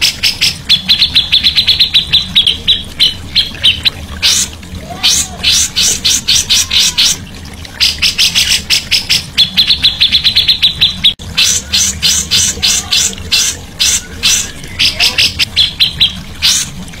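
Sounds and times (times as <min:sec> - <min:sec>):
songbird chirping and trilling: 0:00.0 - 0:16.8.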